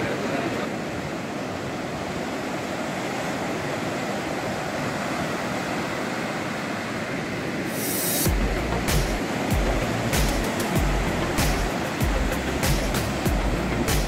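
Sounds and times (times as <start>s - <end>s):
waves breaking on beach: 0.0s - 14.0s.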